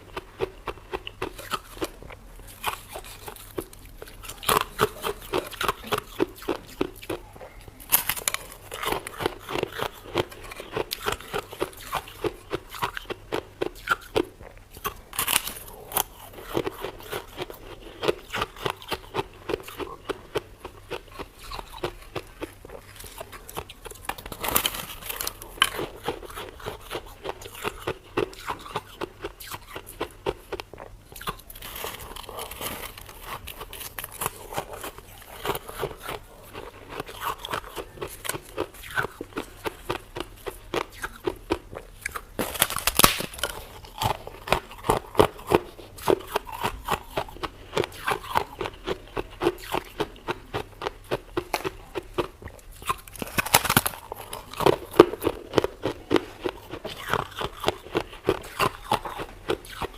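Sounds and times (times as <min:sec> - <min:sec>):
frost being chewed crunching: 0:00.0 - 0:59.9.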